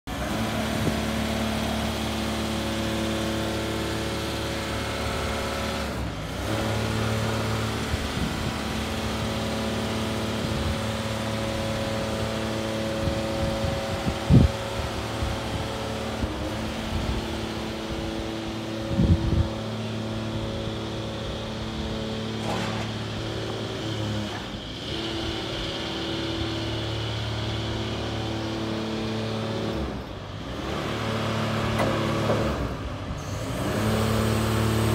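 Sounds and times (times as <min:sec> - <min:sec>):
truck diesel engine running: 0:00.1 - 0:34.9.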